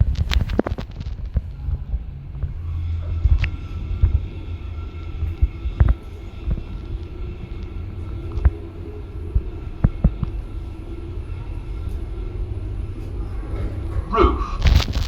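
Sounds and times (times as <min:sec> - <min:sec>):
lift car rumble and hum: 0:00.0 - 0:15.0.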